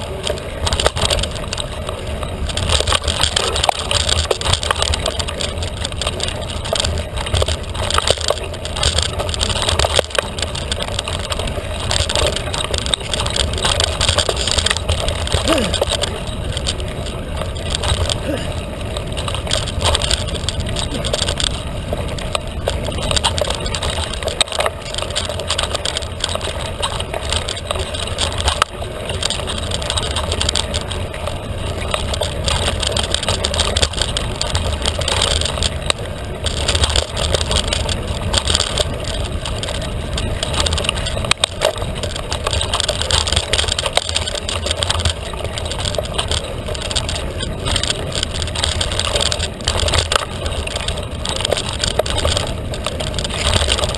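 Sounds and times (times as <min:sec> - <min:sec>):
bike clicks and rattles: 0:00.0 - 0:53.9
bike tyres on dirt trail: 0:00.0 - 0:53.9.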